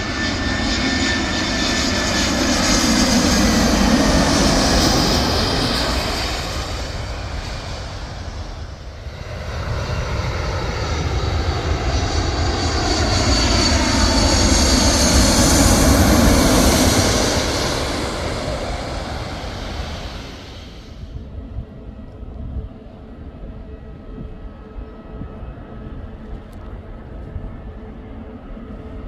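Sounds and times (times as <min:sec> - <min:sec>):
airliner passing overhead: 0:00.0 - 0:29.0.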